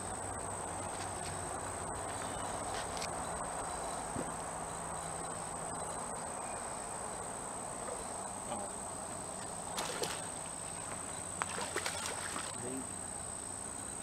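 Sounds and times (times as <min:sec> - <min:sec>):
insects droning high-pitched: 0:00.0 - 0:14.0.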